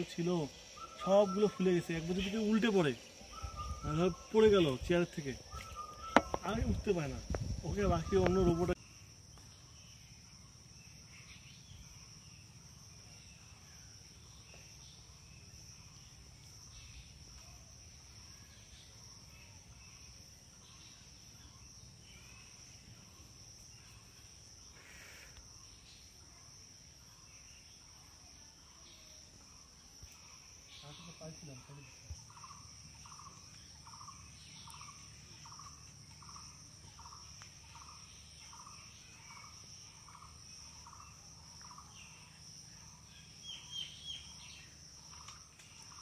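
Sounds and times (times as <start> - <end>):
crickets trilling: 0.0 - 46.0
short insect chirps: 0.0 - 46.0.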